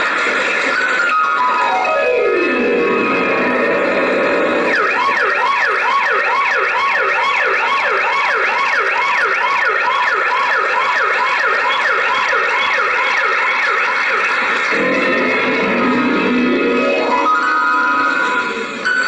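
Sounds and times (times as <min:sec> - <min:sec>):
yelping siren: 0:01.2 - 0:19.0.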